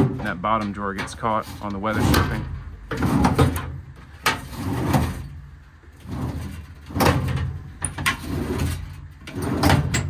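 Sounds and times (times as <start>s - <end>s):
metal drawers sliding on runners: 0.0s - 10.0s.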